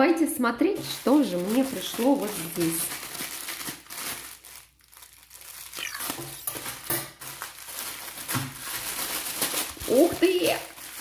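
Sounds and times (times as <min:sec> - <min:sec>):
packaging crinkling and tearing: 0:00.8 - 0:11.0.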